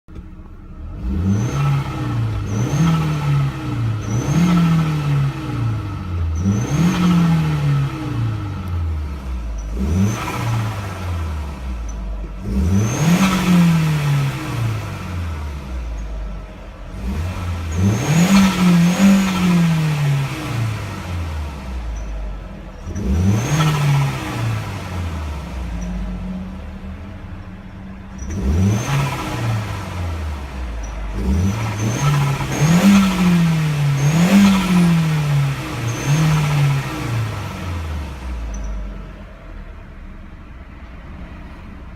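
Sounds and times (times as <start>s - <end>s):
turbo car engine revving: 0.0s - 41.9s.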